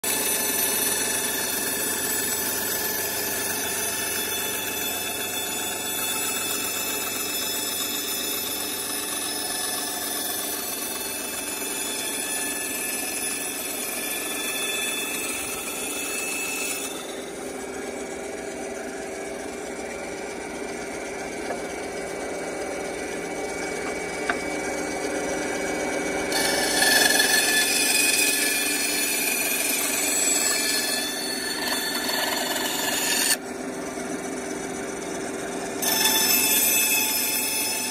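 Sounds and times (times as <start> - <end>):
band saw whining: 0.0 - 37.9
saw blade cutting wood: 0.0 - 37.9.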